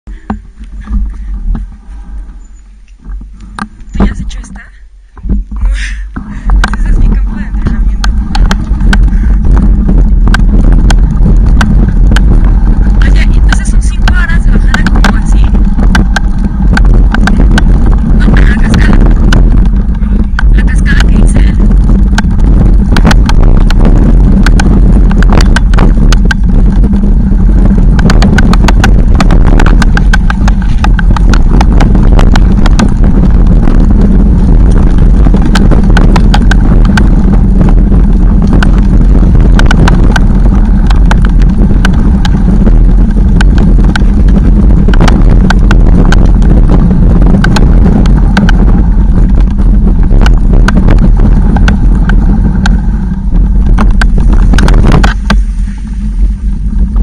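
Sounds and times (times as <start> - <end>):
bicycle rattling and knocking: 0.1 - 57.0
wind buffeting microphone: 0.1 - 57.0.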